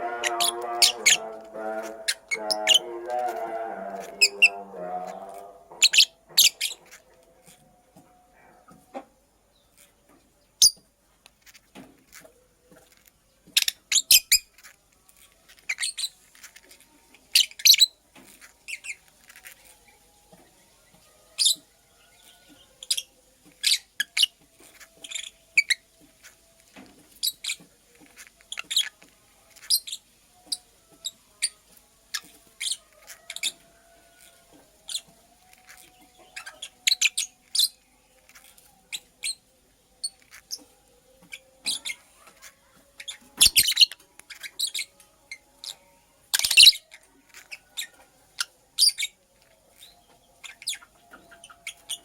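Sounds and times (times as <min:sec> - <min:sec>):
bird chirping: 0:00.0 - 0:08.8, 0:11.4 - 0:52.0.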